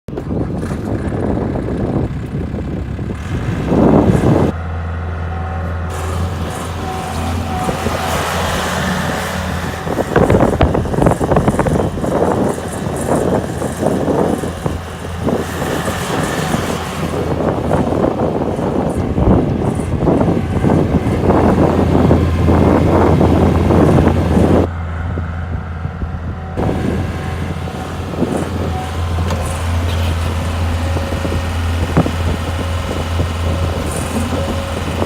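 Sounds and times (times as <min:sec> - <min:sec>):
skid steer engine running: 0:00.1 - 0:35.0.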